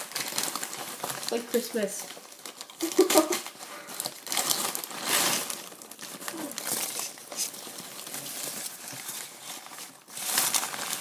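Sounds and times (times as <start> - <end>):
paper and foam crinkling: 0.0 - 11.0.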